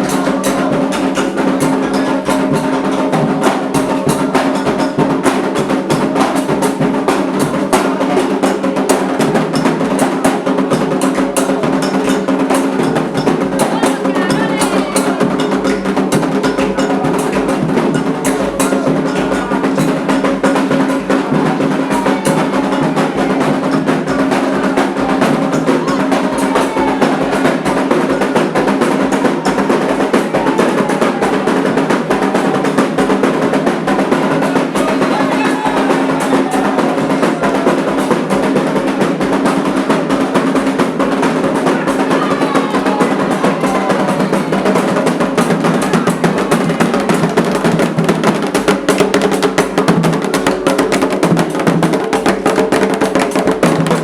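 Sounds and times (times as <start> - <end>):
hand drums beating fast: 0.0 - 54.0
voices singing a chant: 0.0 - 54.0.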